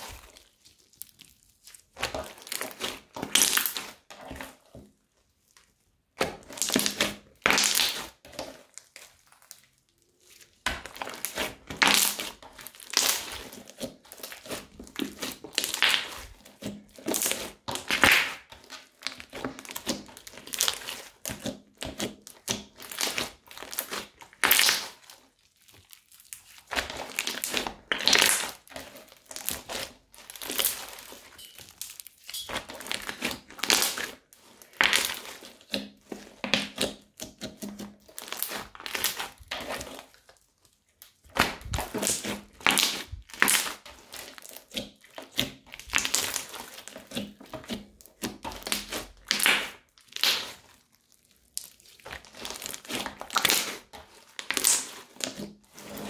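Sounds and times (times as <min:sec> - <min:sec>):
crunchy slime squeezed by hand: 0:00.0 - 0:04.5, 0:06.2 - 0:56.0.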